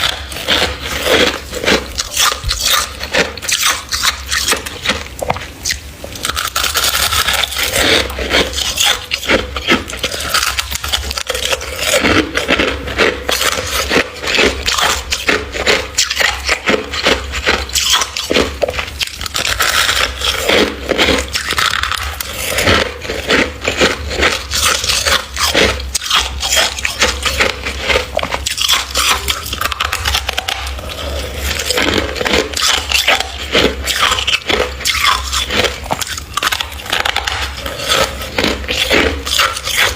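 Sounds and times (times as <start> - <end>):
frost crunching and scraping: 0.0 - 39.9.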